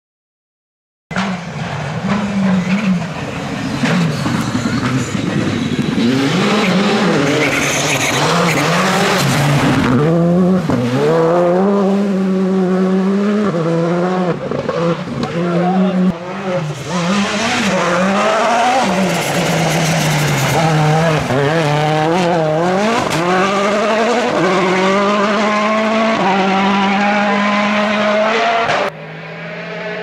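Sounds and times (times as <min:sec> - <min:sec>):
rally car engine revving: 0:01.1 - 0:30.0.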